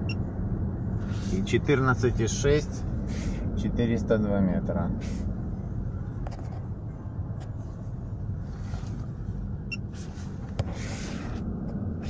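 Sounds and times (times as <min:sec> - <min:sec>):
car engine and tyres droning: 0:00.0 - 0:12.0.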